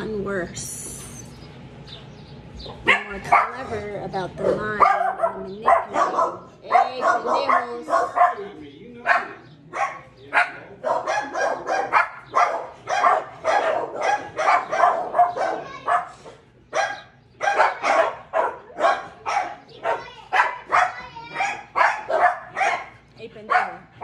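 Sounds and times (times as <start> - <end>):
dog barking: 2.7 - 3.8, 4.4 - 24.0.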